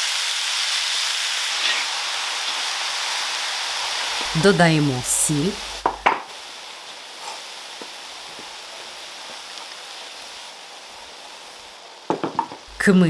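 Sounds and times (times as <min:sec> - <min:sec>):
meat sizzling: 0:00.0 - 0:13.0.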